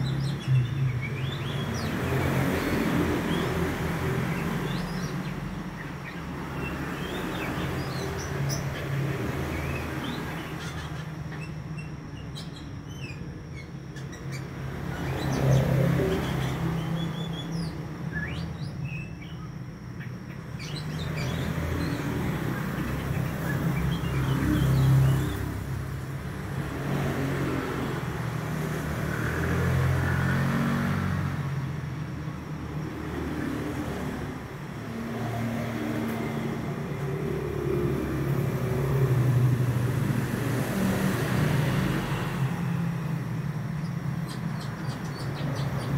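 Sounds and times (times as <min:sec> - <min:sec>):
bird chirping song: 0:00.0 - 0:45.9
low rumble of motor traffic: 0:00.0 - 0:45.9.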